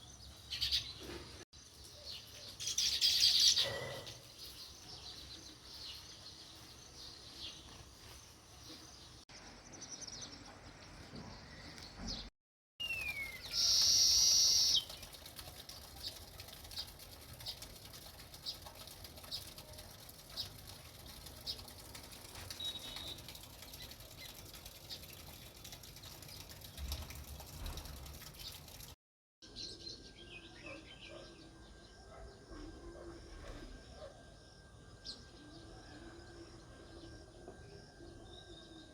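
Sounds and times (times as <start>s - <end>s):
sparrows chirping: 0.0s - 28.8s, 29.6s - 34.2s.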